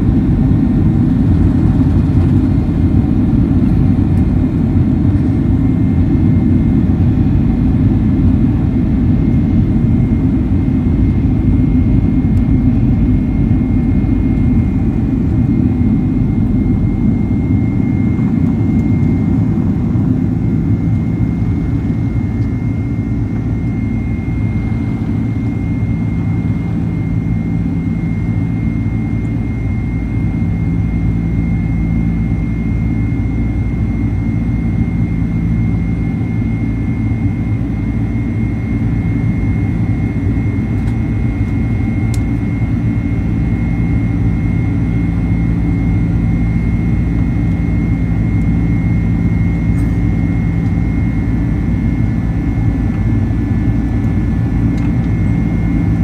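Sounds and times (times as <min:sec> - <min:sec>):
high engine whine: 0:00.0 - 0:56.0
jet engine drone: 0:00.0 - 0:56.0.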